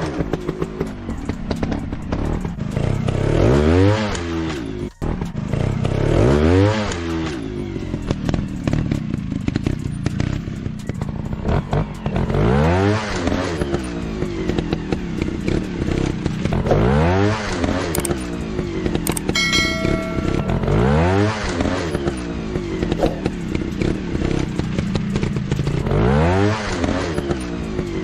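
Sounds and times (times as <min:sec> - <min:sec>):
dirt bike engine revving: 0:01.2 - 0:10.5, 0:11.4 - 0:28.0.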